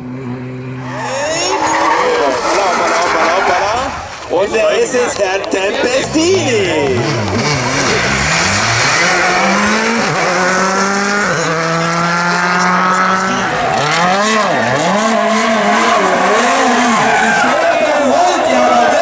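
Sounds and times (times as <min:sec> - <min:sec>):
rally car engine revving: 0:00.0 - 0:04.3, 0:06.0 - 0:19.0.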